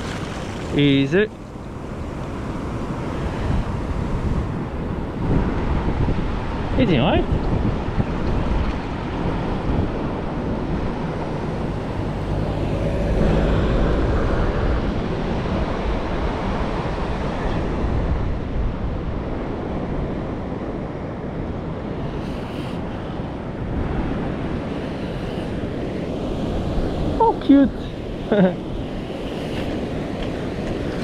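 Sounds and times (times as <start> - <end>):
ocean surf washing on shore: 0.0 - 31.0
wind buffeting microphone: 0.0 - 31.0.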